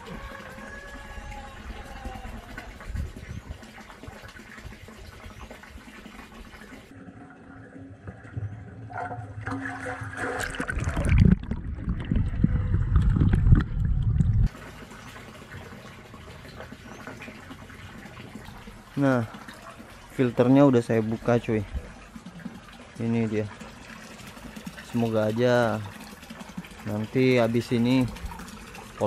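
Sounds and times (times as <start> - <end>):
water gushing through drain: 0.0 - 29.0.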